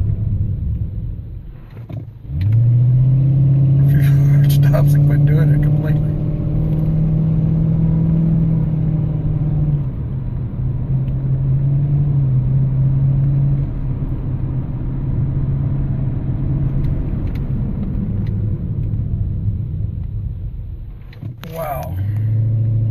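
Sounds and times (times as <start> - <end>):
car engine and road hum: 0.0 - 22.9.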